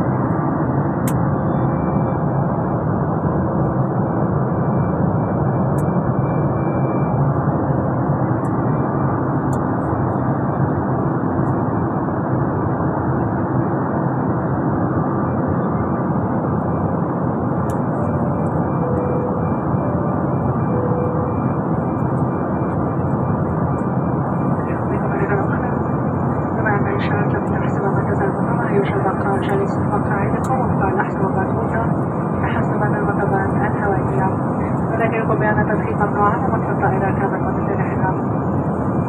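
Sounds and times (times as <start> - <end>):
jet airliner cabin noise: 0.0 - 39.0.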